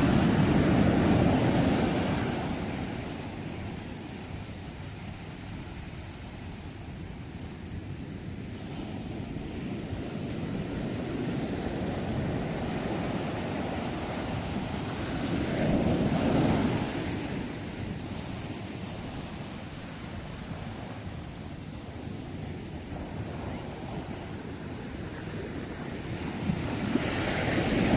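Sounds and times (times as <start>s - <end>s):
ocean waves breaking: 0.0s - 27.9s
wind buffeting microphone: 0.0s - 27.9s.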